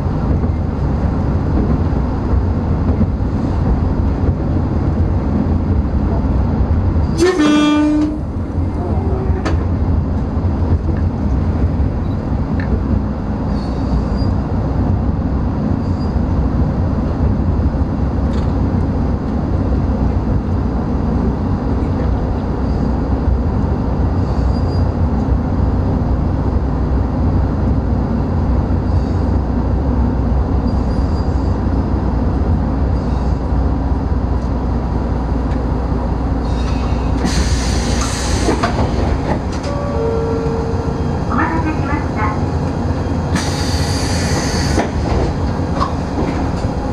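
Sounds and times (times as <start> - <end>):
railcar engine drone: 0.0 - 46.9
train wheel rumble: 0.0 - 46.9.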